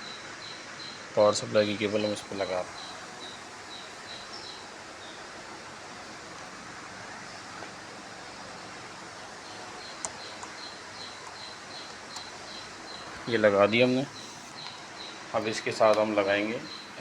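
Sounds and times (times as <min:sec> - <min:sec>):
insect chirping: 0:00.0 - 0:17.0
steady background hiss: 0:00.0 - 0:17.0.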